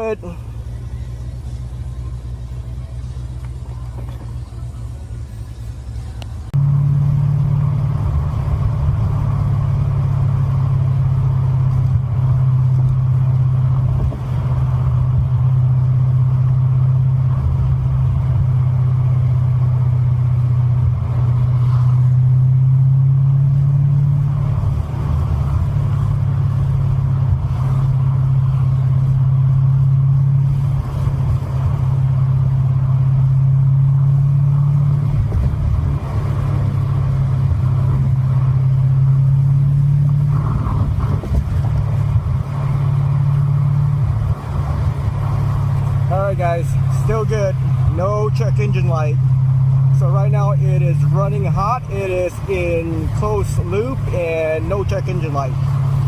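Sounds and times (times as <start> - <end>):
car engine and drivetrain drone: 0.0 - 56.0.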